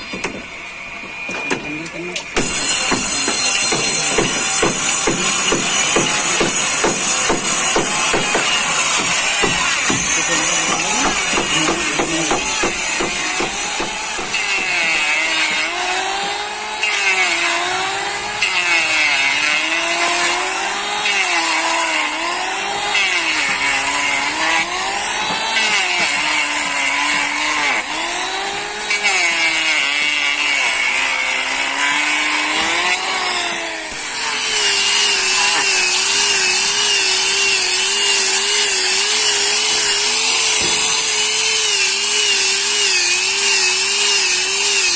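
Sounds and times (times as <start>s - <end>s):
electric power tool running: 0.0s - 44.9s.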